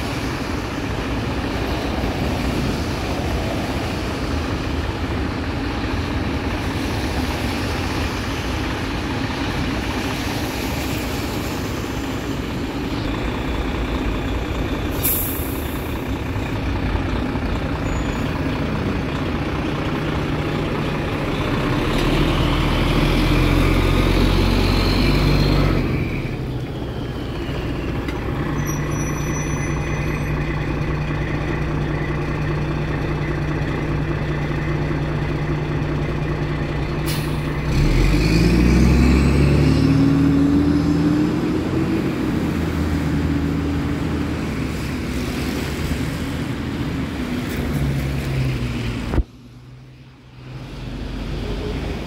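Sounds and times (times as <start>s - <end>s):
diesel engine idling and revving: 0.0s - 52.0s.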